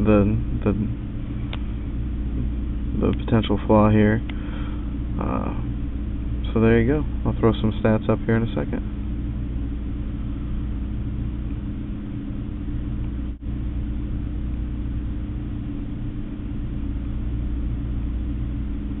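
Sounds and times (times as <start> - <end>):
low mechanical room hum: 0.0 - 19.0.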